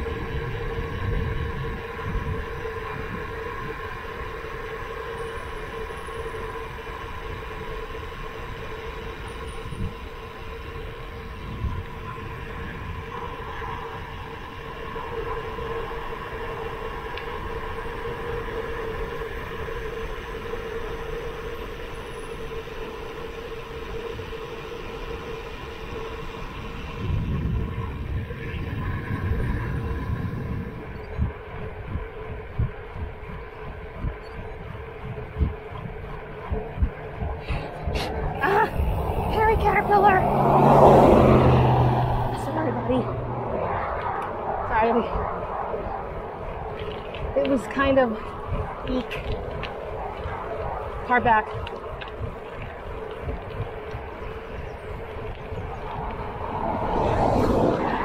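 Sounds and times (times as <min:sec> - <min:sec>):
bike tyres humming on asphalt: 0:00.0 - 0:58.0
wind buffeting microphone: 0:00.0 - 0:58.0.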